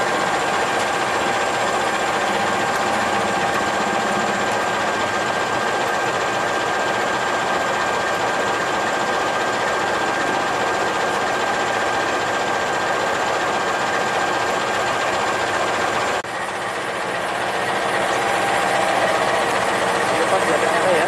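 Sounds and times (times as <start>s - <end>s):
constant whine: 0.0s - 21.0s
locomotive engine idling: 0.0s - 21.0s.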